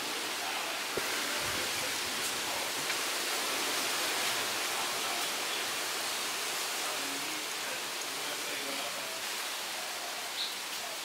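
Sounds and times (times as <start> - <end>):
rushing hiss: 0.0 - 11.0.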